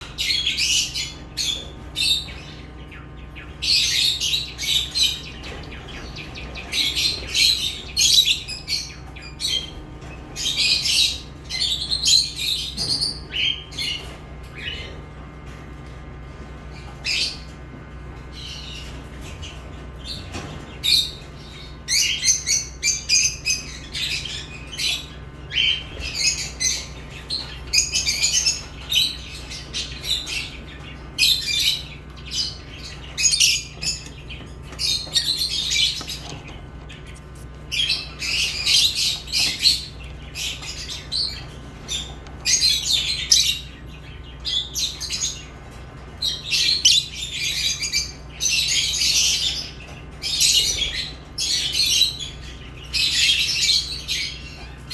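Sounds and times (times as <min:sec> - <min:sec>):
lovebirds chirping and squawking: 0:00.0 - 0:54.9.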